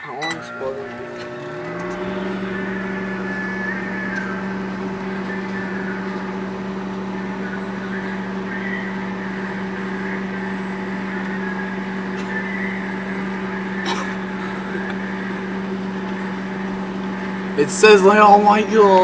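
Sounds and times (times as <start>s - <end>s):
fan noise: 0.0s - 19.0s
microwave oven hum: 0.0s - 19.0s.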